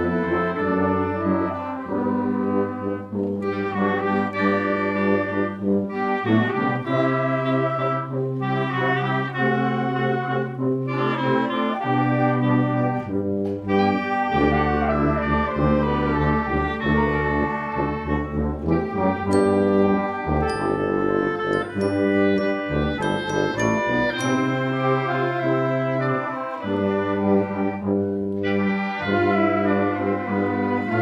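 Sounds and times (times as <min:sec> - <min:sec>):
brass ensemble playing chords: 0:00.0 - 0:31.0.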